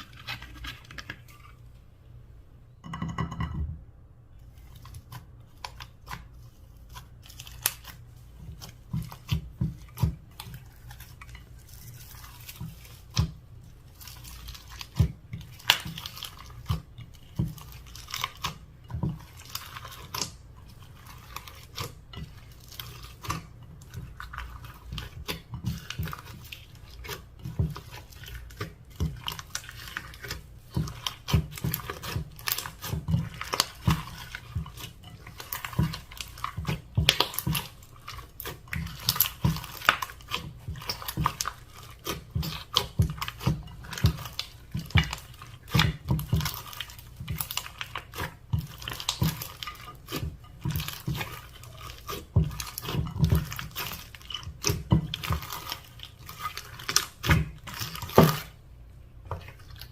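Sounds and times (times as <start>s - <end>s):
slime squishing by hand: 0.0s - 1.9s, 4.3s - 59.9s.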